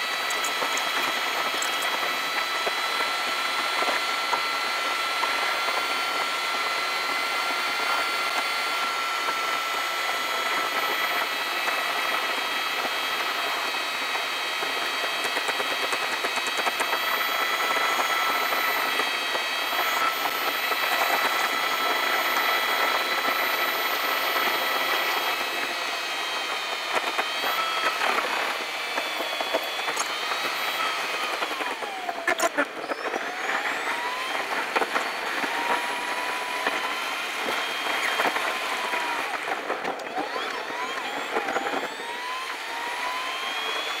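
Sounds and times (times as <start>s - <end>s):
sped-up car driving drone: 0.0s - 44.0s.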